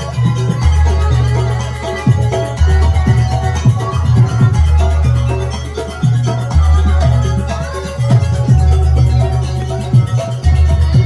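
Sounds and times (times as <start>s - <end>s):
drum strokes: 0.0s - 11.0s
ringing metallic percussion: 0.0s - 11.0s
steady low bass: 0.0s - 11.0s.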